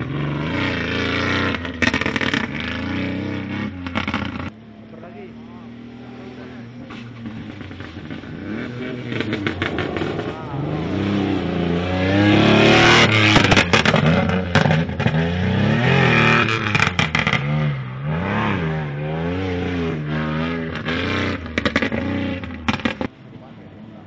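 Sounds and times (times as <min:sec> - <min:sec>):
truck engine revving: 0:00.0 - 0:23.2
engine crackles: 0:00.0 - 0:24.0.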